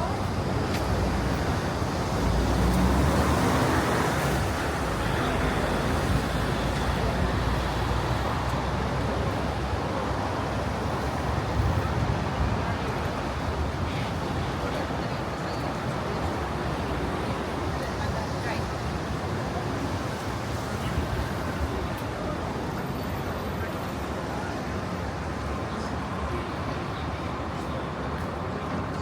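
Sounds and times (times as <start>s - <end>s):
steady roadway rumble: 0.0s - 29.0s.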